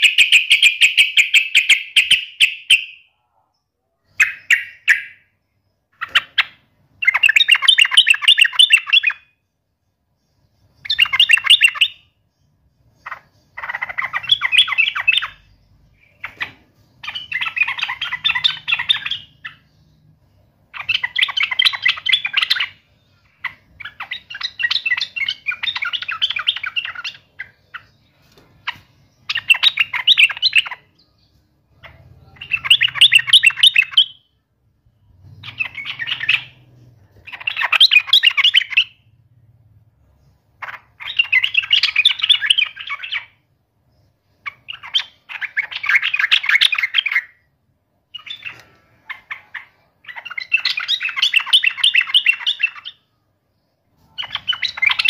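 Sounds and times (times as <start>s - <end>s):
bulbul chattering song: 0.0s - 9.6s, 10.2s - 53.2s.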